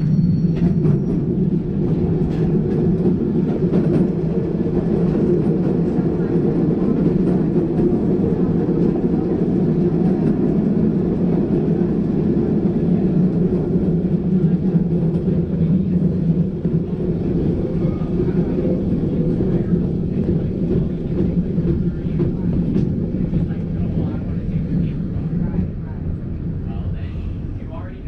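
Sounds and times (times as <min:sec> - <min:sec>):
streetcar wheels rumbling on rails: 0:00.0 - 0:28.0.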